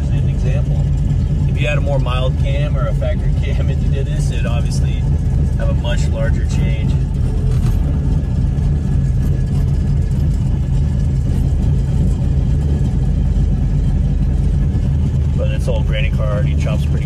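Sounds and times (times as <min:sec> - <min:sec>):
lumpy engine idle: 0:00.0 - 0:17.0.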